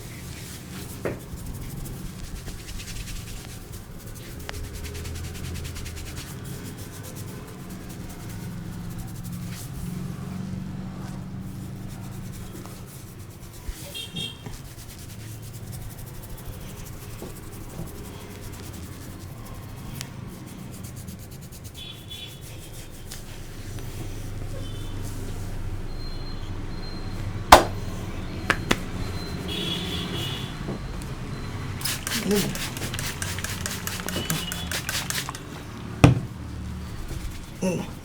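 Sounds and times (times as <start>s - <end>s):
hands rubbing through hair: 0.0s - 25.6s, 28.4s - 30.4s, 31.4s - 38.0s.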